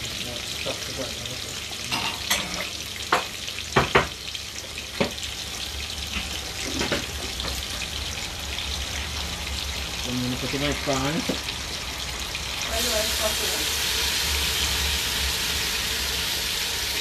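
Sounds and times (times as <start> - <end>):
chicken frying in oil: 0.0 - 17.0.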